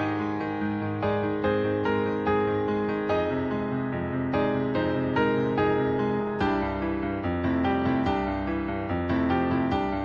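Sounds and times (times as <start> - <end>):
background piano music: 0.0 - 10.0.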